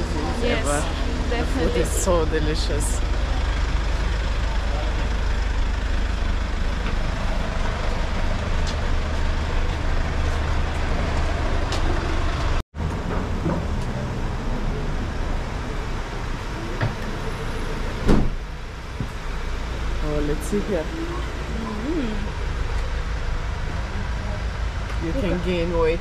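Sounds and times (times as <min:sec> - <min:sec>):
city street traffic rumble: 0:00.0 - 0:26.0.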